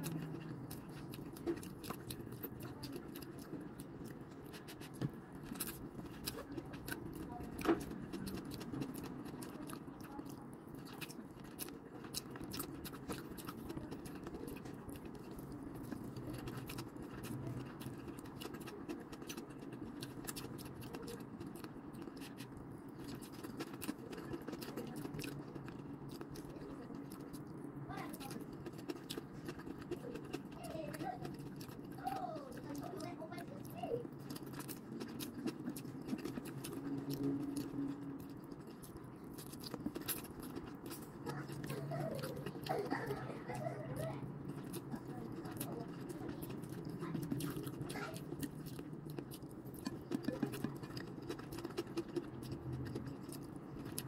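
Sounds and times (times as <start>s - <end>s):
chewing and slurping: 0.0s - 54.0s
low steady hum: 0.0s - 54.0s.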